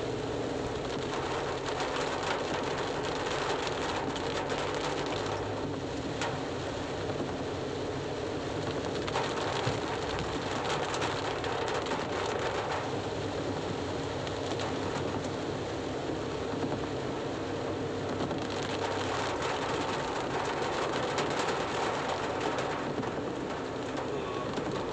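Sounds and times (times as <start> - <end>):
heavy rain on car roof: 0.0 - 24.9.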